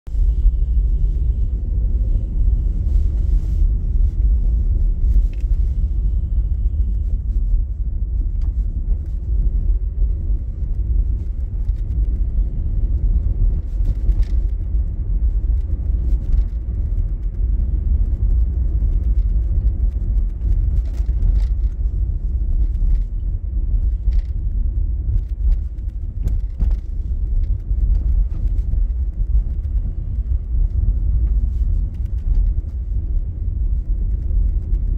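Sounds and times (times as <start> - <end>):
car driving rumble inside cabin: 0.0 - 34.9.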